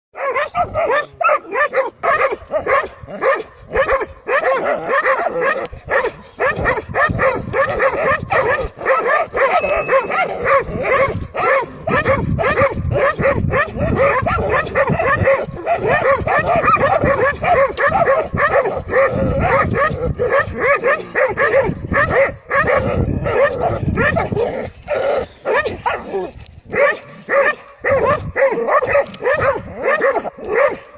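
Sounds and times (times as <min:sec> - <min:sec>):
dogs barking and yelping: 0:00.2 - 0:30.9.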